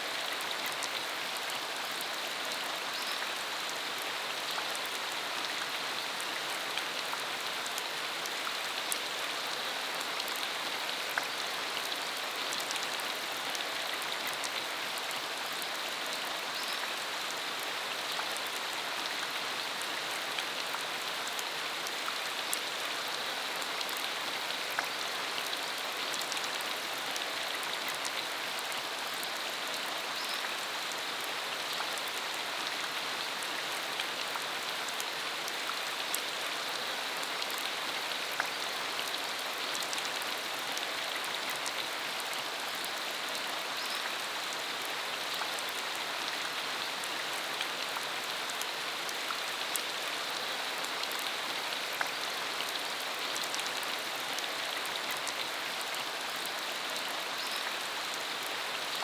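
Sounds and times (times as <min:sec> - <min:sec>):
steady rain on dirt road: 0:00.0 - 0:59.0.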